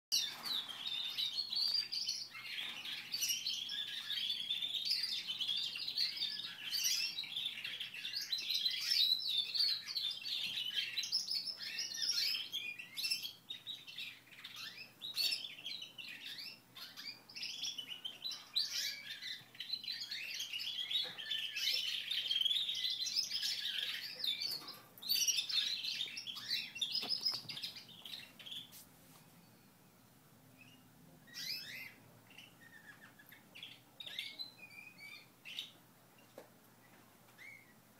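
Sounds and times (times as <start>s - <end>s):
canaries singing: 0.1s - 37.9s.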